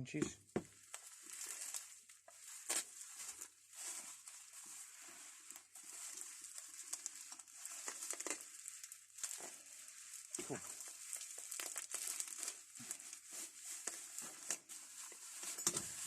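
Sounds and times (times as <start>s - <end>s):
rustling packaging: 0.6s - 16.0s.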